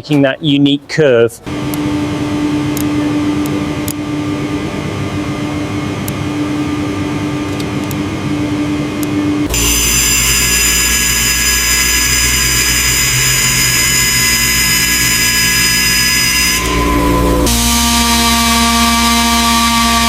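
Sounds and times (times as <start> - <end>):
machine humming: 1.4 - 20.0
high-pitched power tool whine: 1.5 - 20.0.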